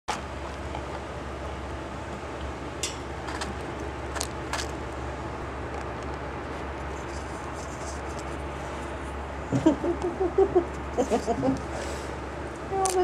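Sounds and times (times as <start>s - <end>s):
low hum and hiss: 0.1s - 13.0s.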